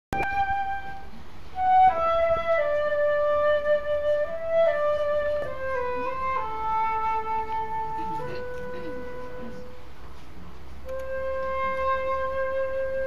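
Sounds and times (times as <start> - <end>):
flute solo melody: 0.1 - 9.9, 10.8 - 13.0.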